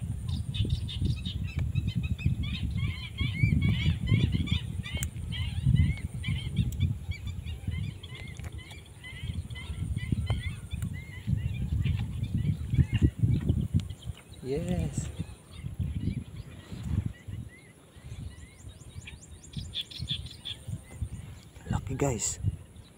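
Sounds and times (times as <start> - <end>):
flock of birds chirping: 0.0 - 22.9
low rumble on microphone: 0.0 - 22.9.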